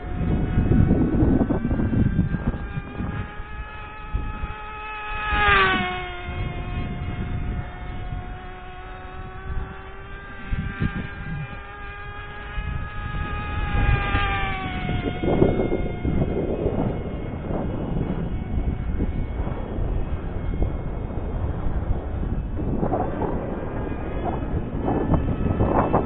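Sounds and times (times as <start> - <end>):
model plane engine whining: 0.0 - 26.0
wind gusts on microphone: 0.0 - 26.0.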